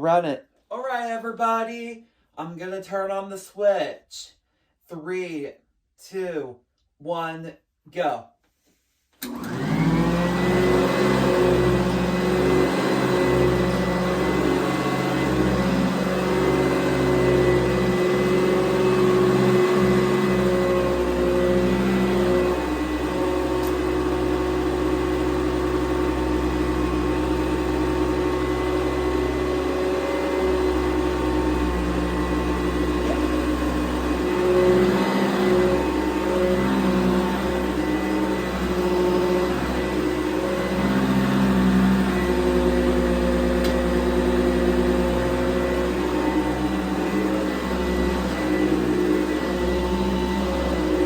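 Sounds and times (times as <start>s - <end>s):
vacuum cleaner running: 9.2s - 51.0s.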